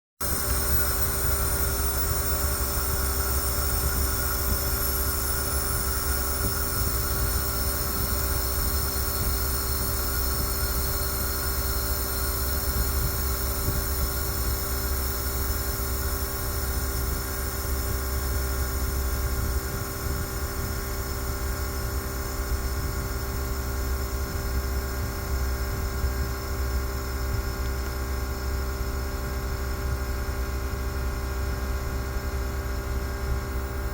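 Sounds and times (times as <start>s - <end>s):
machinery low rumble and hum: 0.2s - 33.9s.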